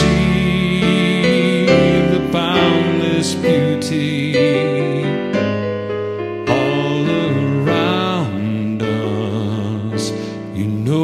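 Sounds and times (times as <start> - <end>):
man singing slow song: 0.0 - 5.5, 6.4 - 11.0
digital piano chords: 0.0 - 11.0.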